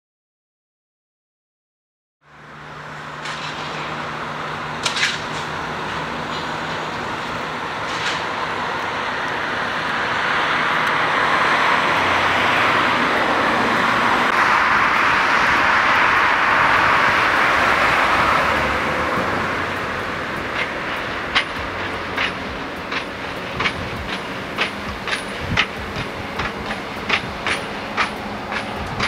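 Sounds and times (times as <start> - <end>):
passing vehicle rushing noise: 2.2 - 29.0.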